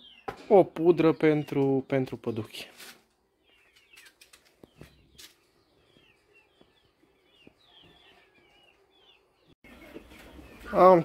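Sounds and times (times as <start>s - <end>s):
high bird chirps: 0.0s - 2.6s, 3.4s - 11.0s.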